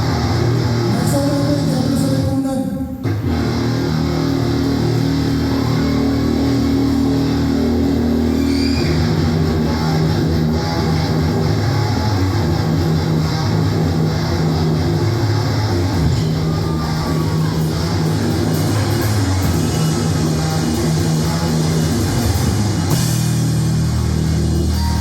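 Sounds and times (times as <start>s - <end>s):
heavy rock guitar and bass: 0.0s - 25.0s.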